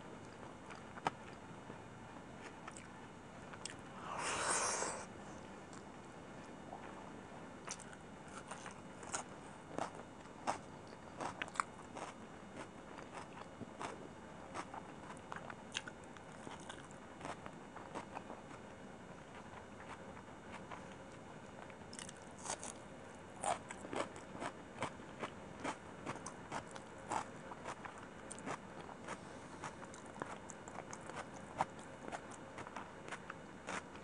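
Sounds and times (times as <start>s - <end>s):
person chewing food: 0.2s - 1.4s, 2.4s - 2.9s, 3.5s - 5.1s, 7.6s - 18.6s, 19.3s - 22.8s, 23.4s - 34.0s.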